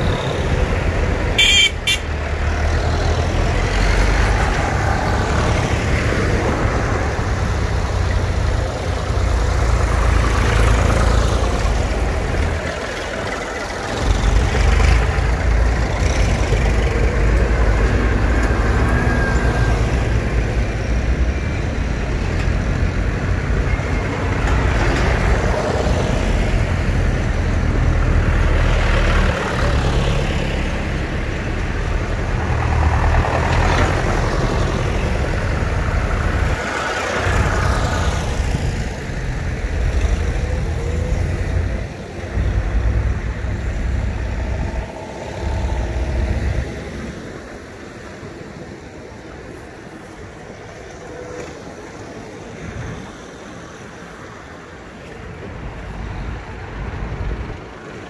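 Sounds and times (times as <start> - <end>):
tractors driving past: 0.0 - 58.0.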